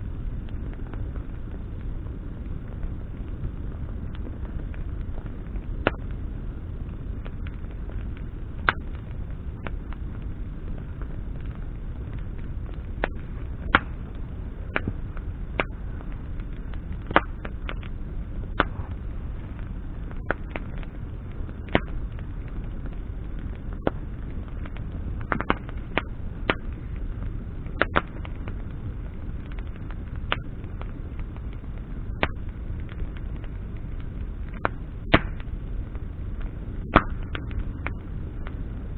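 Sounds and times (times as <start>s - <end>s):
campfire crackling pops: 0.0s - 38.9s
fire low rumble: 0.0s - 38.9s.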